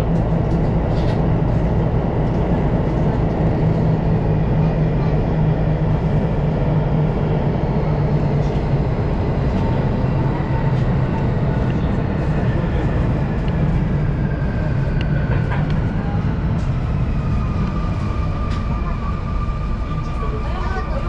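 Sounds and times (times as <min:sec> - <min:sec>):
constant low hum: 0:00.0 - 0:21.0
train rumble: 0:00.0 - 0:21.0.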